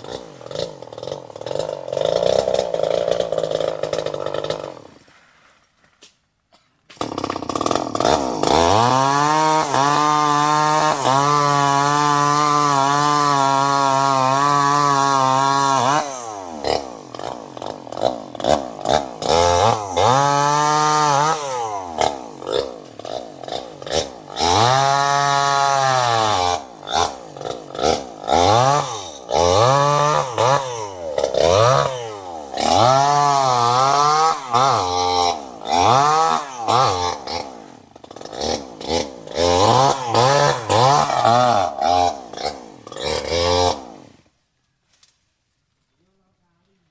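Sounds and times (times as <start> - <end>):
chainsaw engine revving: 0.0 - 5.1, 6.9 - 44.3.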